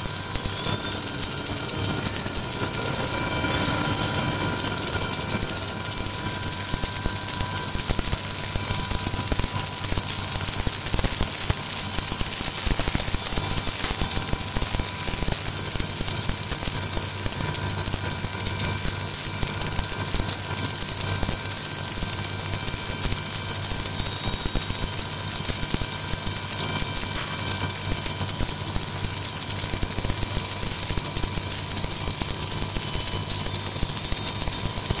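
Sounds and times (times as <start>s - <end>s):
low electrical hum: 0.0s - 35.0s
welding hiss: 0.0s - 35.0s.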